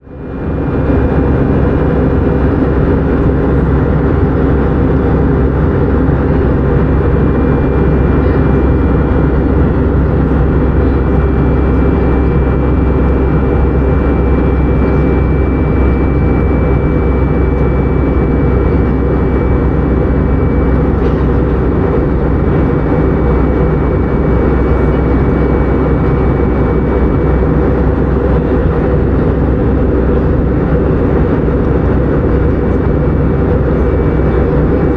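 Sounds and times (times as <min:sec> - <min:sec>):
jet airliner engine drone: 0:00.0 - 0:34.9
faint high whine: 0:00.1 - 0:34.9.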